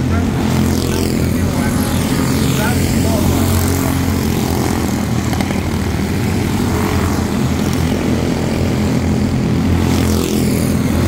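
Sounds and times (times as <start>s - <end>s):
small race car engines droning: 0.0s - 11.0s.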